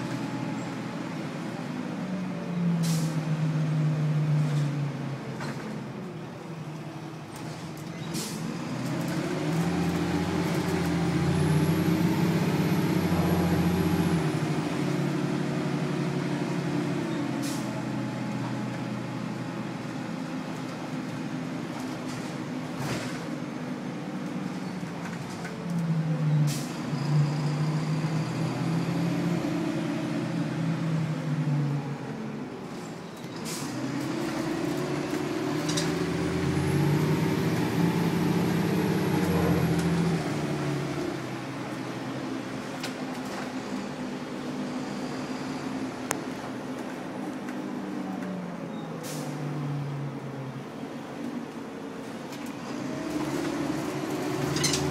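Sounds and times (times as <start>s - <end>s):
diesel bus engine pulling: 0.0s - 54.9s.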